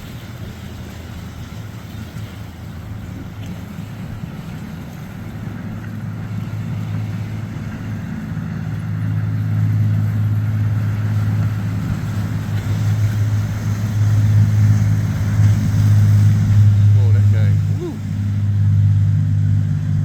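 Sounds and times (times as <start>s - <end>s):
boat engines droning: 0.0s - 20.0s.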